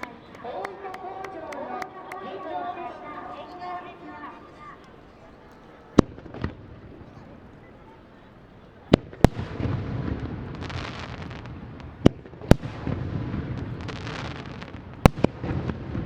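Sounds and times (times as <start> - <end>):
fireworks bangs: 0.0 - 16.0
fireworks rumble and crackle: 0.0 - 16.0.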